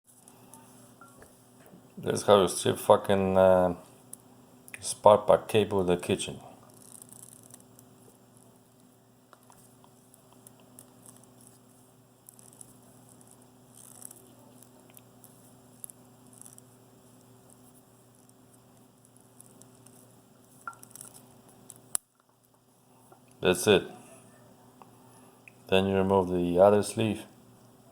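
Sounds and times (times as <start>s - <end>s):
low steady hum: 0.1s - 27.9s.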